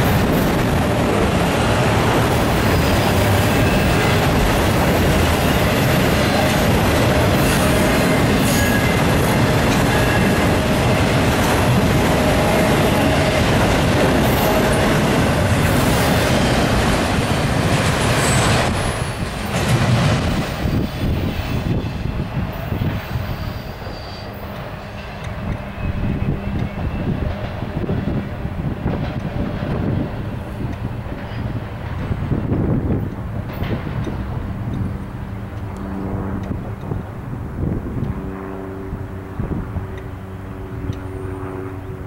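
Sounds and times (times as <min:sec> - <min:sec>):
steel wheels clattering on rail: 0:00.0 - 0:35.8.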